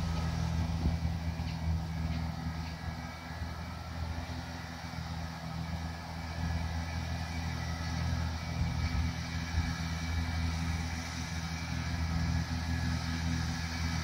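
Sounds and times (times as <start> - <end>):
mower engine droning: 0.0 - 14.0.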